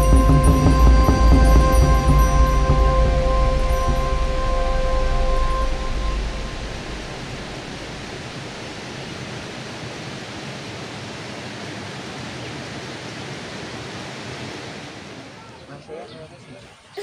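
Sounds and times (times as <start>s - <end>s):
water rushing: 0.0s - 15.7s.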